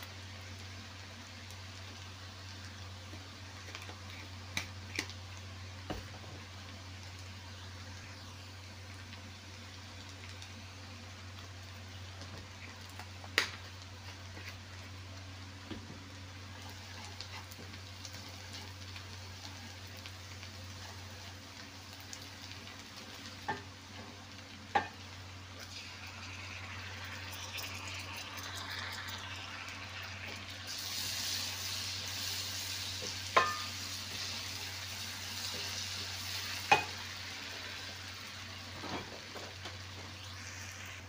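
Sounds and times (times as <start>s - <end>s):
garlic sizzling in a pot: 0.0s - 41.0s.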